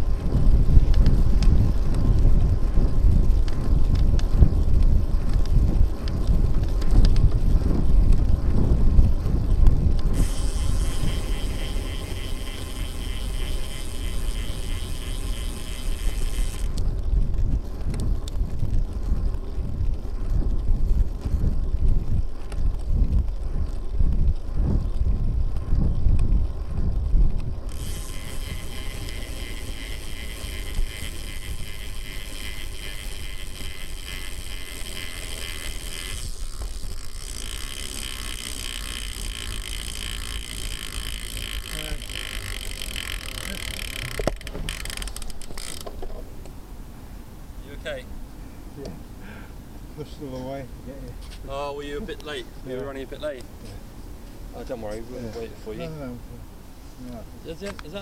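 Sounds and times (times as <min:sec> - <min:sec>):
bicycle ride rush: 0:00.0 - 0:58.0
wind buffeting microphone: 0:00.0 - 0:58.0.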